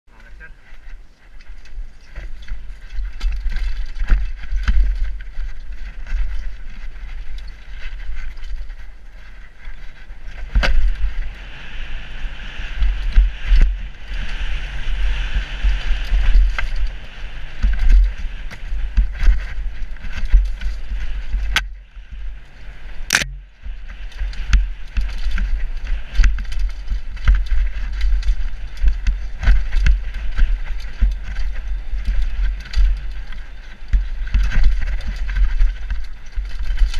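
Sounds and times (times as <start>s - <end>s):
bike rattling over rough ground: 0.1s - 36.9s
wind buffeting microphone: 0.2s - 36.9s.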